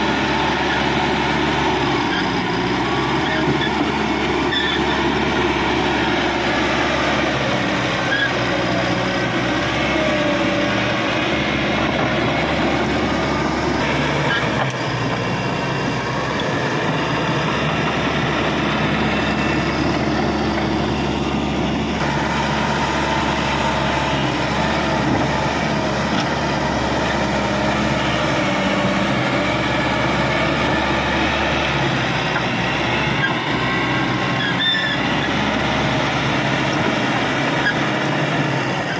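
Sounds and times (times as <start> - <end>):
bulldozer diesel engine under load: 0.0 - 38.9.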